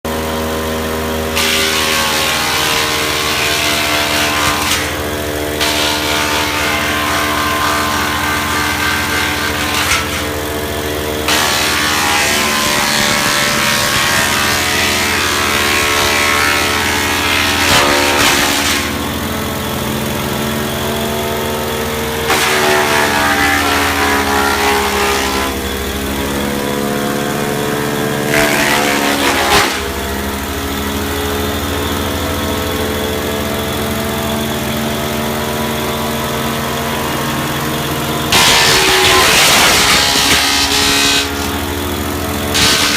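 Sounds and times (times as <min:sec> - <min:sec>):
wood chipper engine running: 0:00.0 - 0:42.9
harsh chipping noise: 0:00.4 - 0:20.4, 0:21.4 - 0:31.0, 0:35.6 - 0:42.9.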